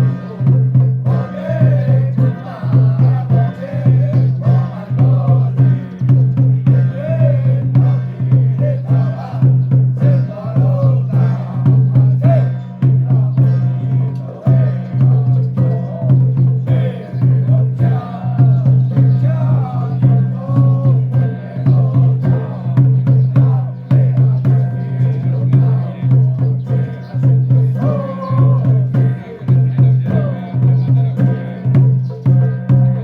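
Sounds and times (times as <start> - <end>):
drum strikes: 0.0 - 33.0
voices chanting: 0.0 - 33.0.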